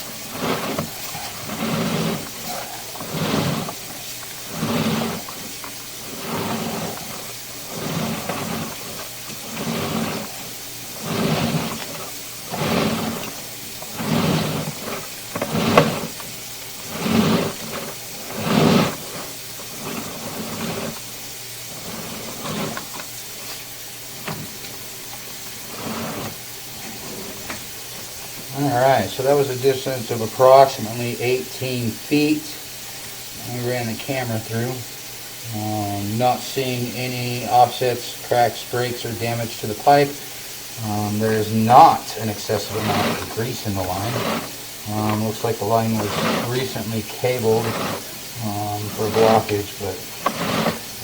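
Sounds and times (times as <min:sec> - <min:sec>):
water rushing through drain: 0:00.0 - 0:51.0.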